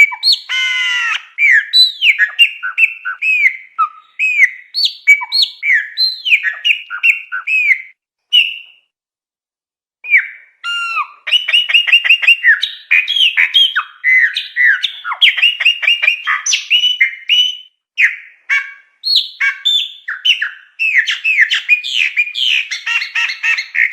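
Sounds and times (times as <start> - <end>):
blackbird singing: 0.0 - 8.8, 10.0 - 23.9.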